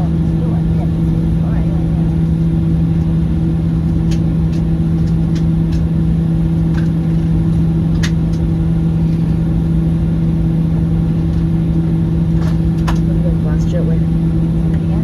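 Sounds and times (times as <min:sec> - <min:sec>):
aircraft cabin engine rumble: 0:00.0 - 0:15.0.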